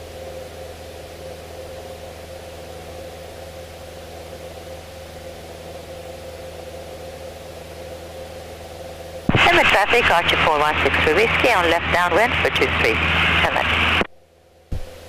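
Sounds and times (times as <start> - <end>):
constant hiss: 0.0 - 15.0
propeller plane engine droning: 0.0 - 15.0.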